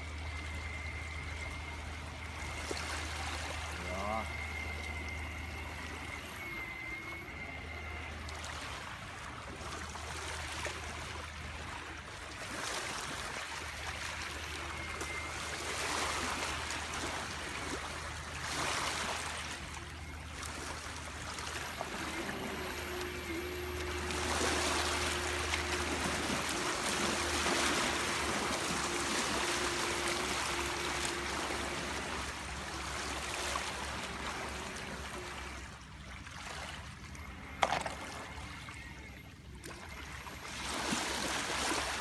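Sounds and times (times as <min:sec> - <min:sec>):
model boat motor whine: 0:00.0 - 0:42.0
water and wind rushing: 0:00.0 - 0:42.0.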